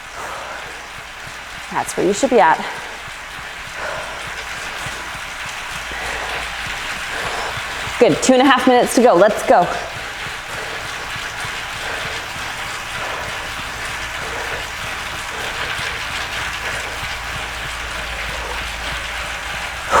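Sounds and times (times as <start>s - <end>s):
bicycle trainer drivetrain whir: 0.0s - 20.0s.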